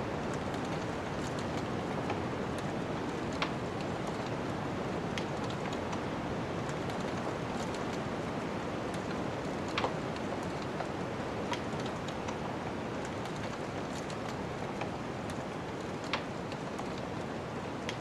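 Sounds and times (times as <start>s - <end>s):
wood fire crackling: 0.2s - 18.0s.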